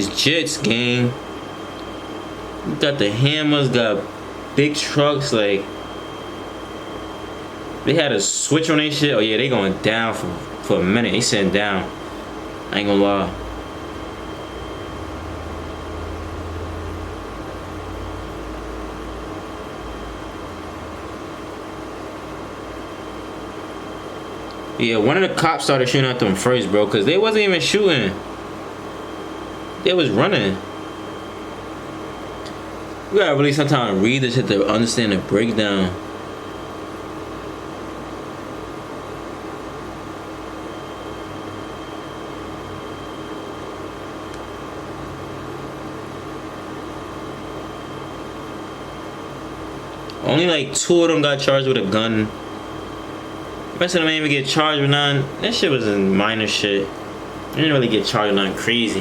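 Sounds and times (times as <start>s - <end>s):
background hum and hiss: 0.0s - 59.0s.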